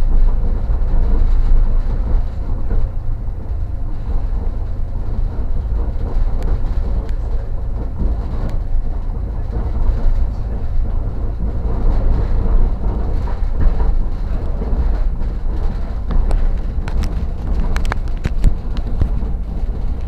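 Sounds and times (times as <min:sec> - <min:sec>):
train rumble from inside carriage: 0:00.0 - 0:20.0
sharp clicks and knocks: 0:00.1 - 0:20.0.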